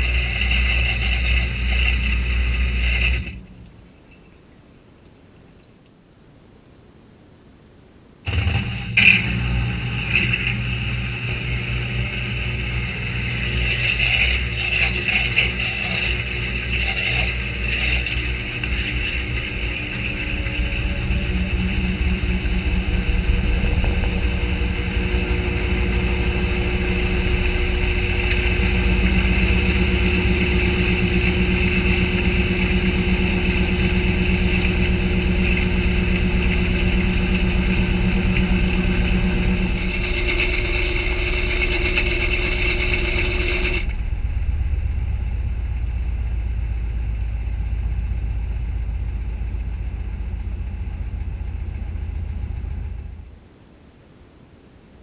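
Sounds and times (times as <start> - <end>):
washer motor hum with whine: 0.0 - 4.2, 8.2 - 53.5
washer basket coasting rumble: 8.3 - 53.3.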